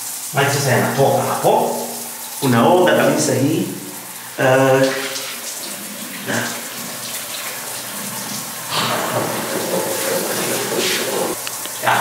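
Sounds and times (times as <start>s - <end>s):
shower water spraying on person: 0.0s - 12.0s.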